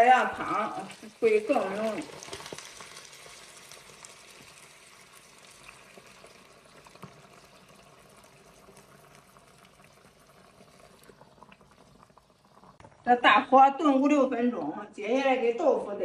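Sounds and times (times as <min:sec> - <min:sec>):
water pouring into hot oil: 0:00.0 - 0:13.2
bubbling and crackling oil: 0:00.0 - 0:13.8.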